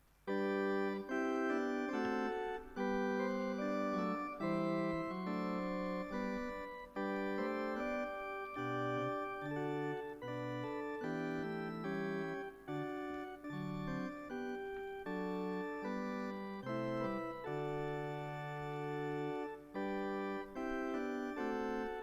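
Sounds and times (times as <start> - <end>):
organ playing hymn chords: 0.2 - 22.0.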